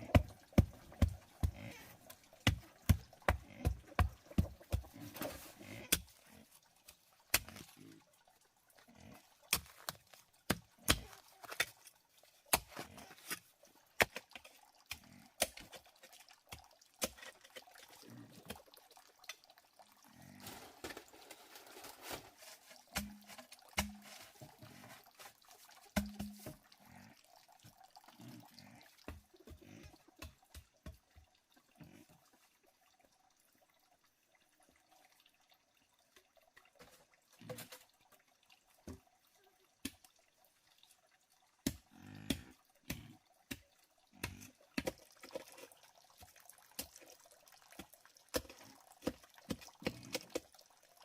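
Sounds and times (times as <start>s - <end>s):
water dripping: 0.0s - 51.0s.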